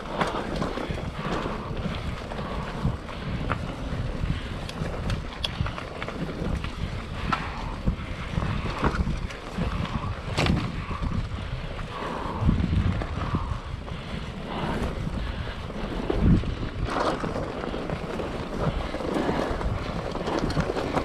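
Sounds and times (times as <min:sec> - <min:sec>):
bike clicks and knocks: 0:00.0 - 0:11.8, 0:14.5 - 0:21.0
mountain bike rumble: 0:00.0 - 0:21.0
wind buffeting microphone: 0:00.0 - 0:21.0.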